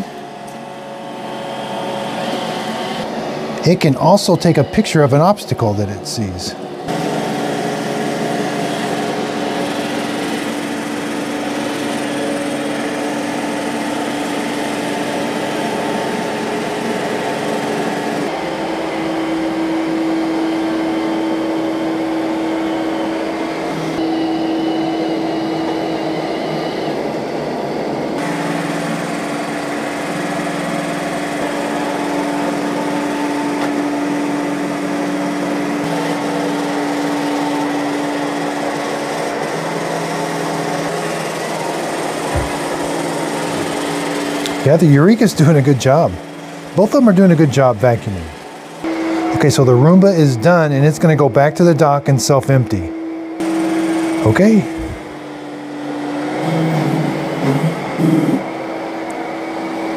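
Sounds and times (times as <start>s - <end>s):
robot vacuum whirring hum: 0.0s - 51.6s, 52.9s - 59.9s.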